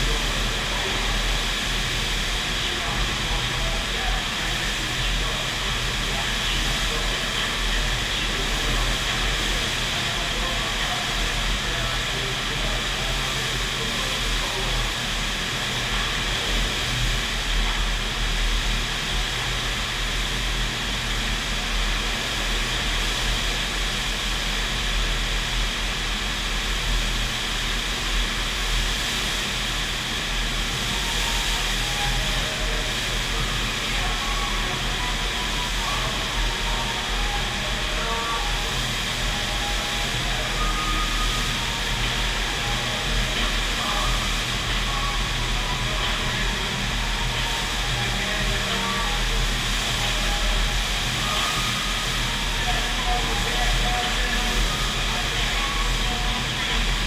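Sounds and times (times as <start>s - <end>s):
wave machine water rushing: 0.0s - 57.0s.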